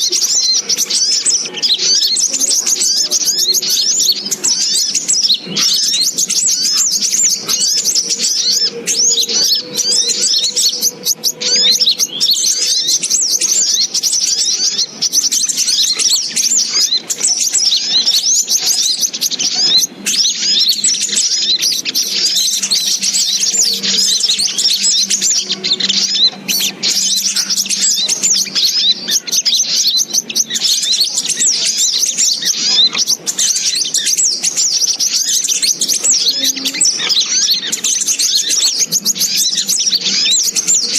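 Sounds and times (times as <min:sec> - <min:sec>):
chorus of high-pitched bird chirps: 0:00.0 - 0:40.9.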